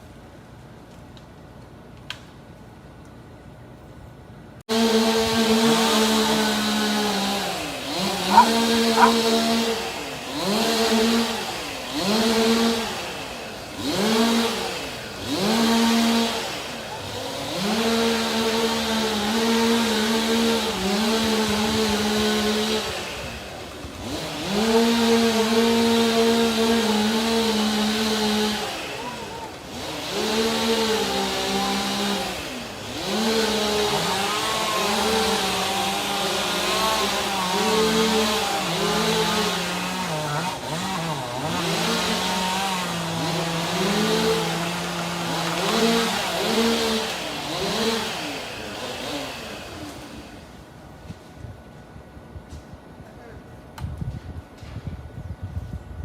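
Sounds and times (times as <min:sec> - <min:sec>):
chainsaw revving: 0:04.7 - 0:50.6.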